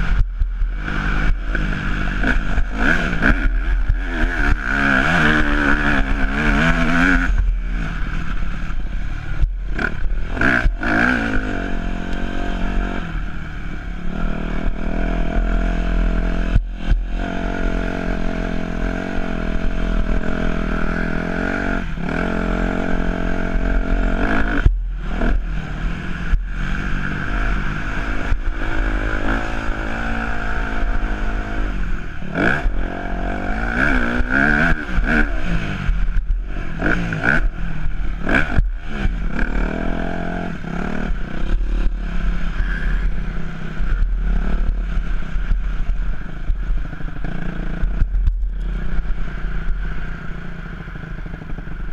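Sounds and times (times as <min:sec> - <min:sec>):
motocross engine revving: 0:00.0 - 0:51.9.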